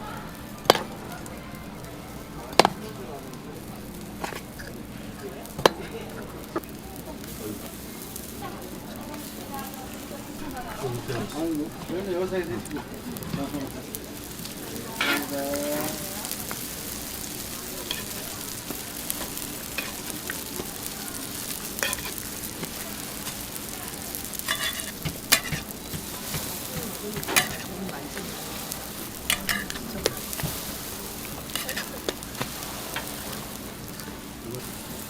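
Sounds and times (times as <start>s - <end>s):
pancakes sizzling in oil: 0.0s - 35.0s.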